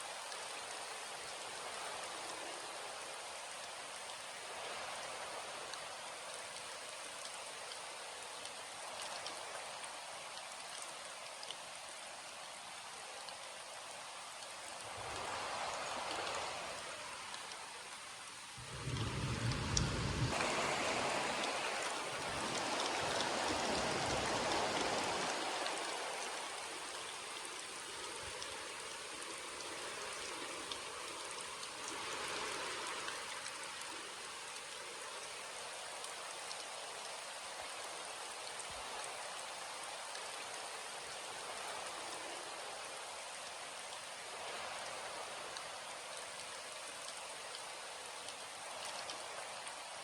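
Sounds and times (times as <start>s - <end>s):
steady rain: 0.0s - 50.0s.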